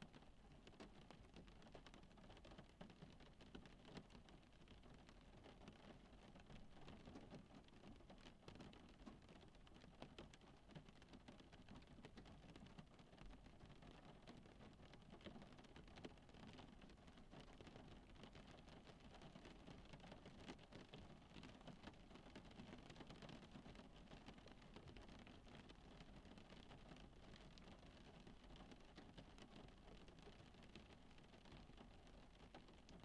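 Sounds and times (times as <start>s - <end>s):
rain pattering on car roof: 0.0s - 33.0s.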